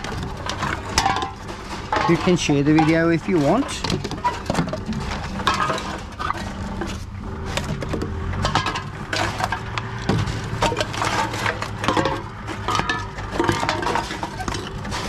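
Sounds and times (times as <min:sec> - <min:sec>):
cans and bottles clattering: 0:00.0 - 0:15.0
vending machine humming: 0:00.0 - 0:15.0.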